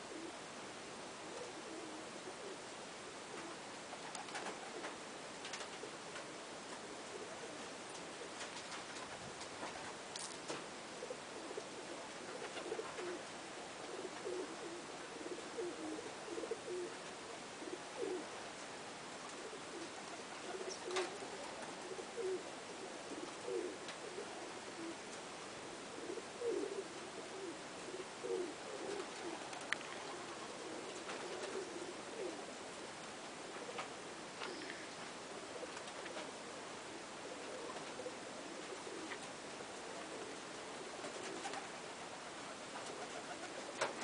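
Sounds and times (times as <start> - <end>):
pigeons cooing: 0.0 - 44.0
steady hiss: 0.0 - 44.0.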